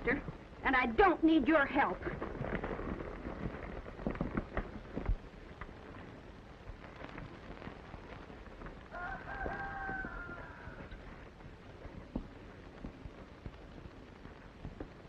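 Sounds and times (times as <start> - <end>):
old film hiss: 0.0 - 15.0
horse hooves clattering: 1.8 - 15.0.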